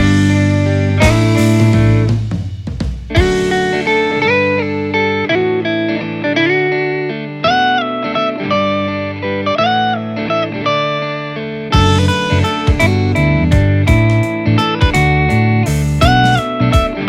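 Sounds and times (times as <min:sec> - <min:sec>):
slow guitar melody: 0:00.0 - 0:17.0.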